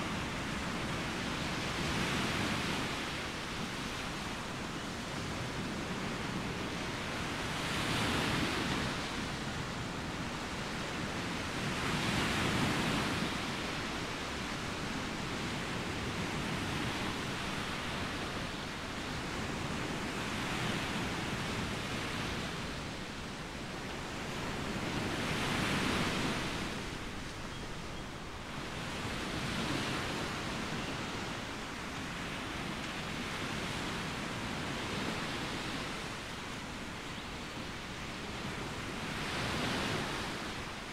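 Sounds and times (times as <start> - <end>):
waves washing onto sandy beach: 0.0 - 27.5, 28.2 - 40.9.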